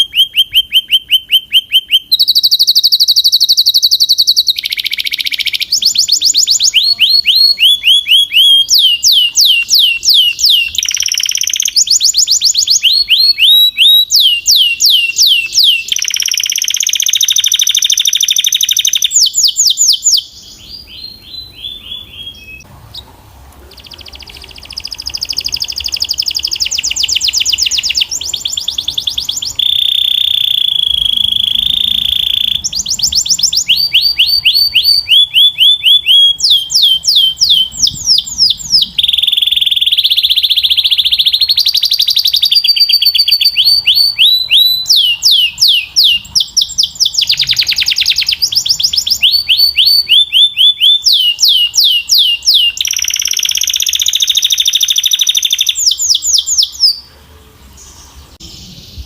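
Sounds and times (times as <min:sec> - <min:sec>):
canary singing rapid trills: 0:00.0 - 0:23.1, 0:23.7 - 0:57.1.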